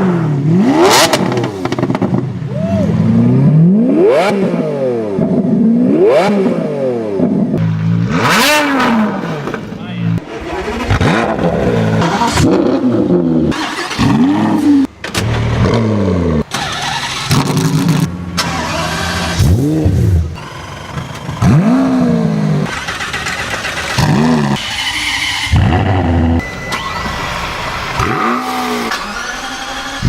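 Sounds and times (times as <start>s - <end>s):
sports car engine revving: 0.0s - 30.0s.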